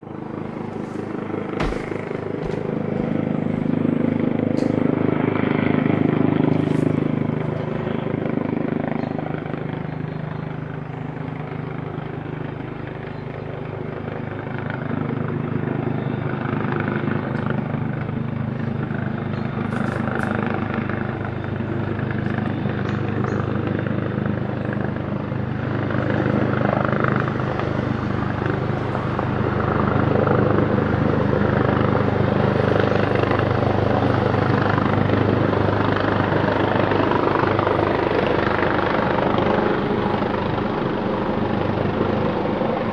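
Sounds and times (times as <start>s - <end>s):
helicopter rotor and engine: 0.0s - 42.9s.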